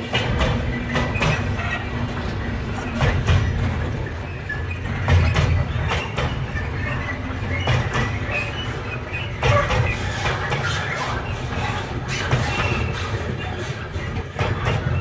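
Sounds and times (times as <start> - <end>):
freight train rumbling past: 0.0 - 15.0
train wagons clanking: 0.0 - 15.0.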